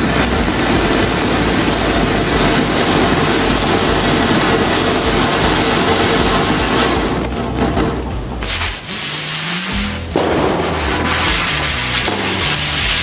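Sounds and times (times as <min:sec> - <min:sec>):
firework fountain hissing: 0:00.0 - 0:13.0.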